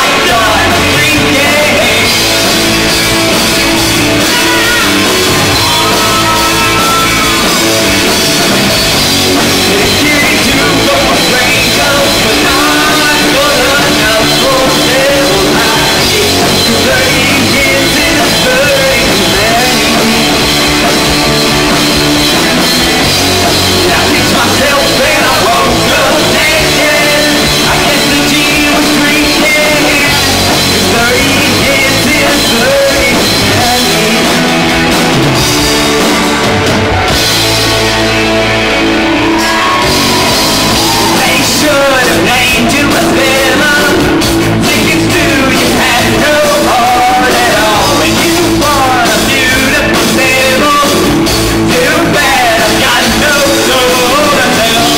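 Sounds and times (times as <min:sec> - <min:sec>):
lead vocal singing: 0:00.0 - 0:37.1, 0:38.4 - 0:54.9
live rock band playing: 0:00.0 - 0:54.9.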